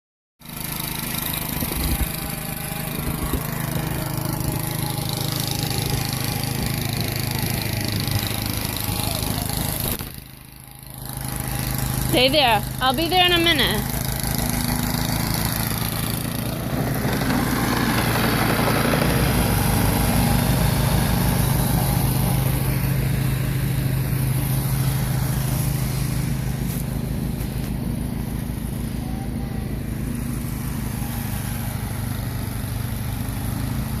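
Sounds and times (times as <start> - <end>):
small engine running: 0.4 - 34.0.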